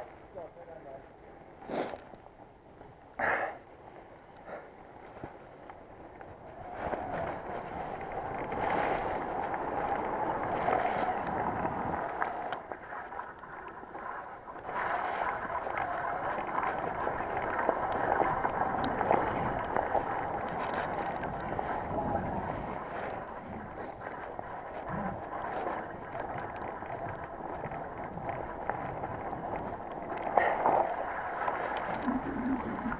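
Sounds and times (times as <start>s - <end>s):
wind on microphone: 5.0s - 32.9s
tyres rushing on wet ground: 6.2s - 32.9s.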